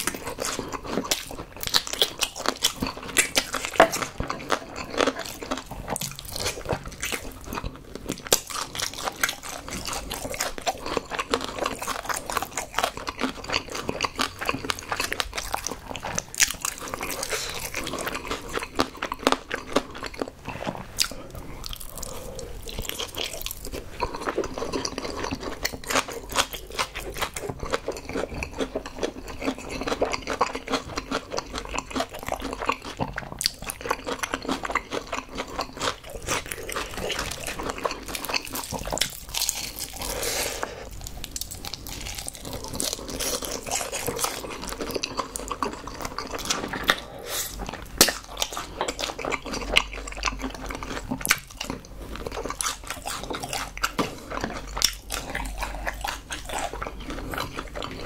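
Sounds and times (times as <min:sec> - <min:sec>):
crunching and chewing fried chicken: 0:00.0 - 0:58.0.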